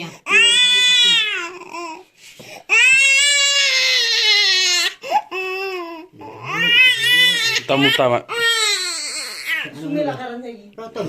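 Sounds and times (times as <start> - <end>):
infant crying: 0.2 - 9.8.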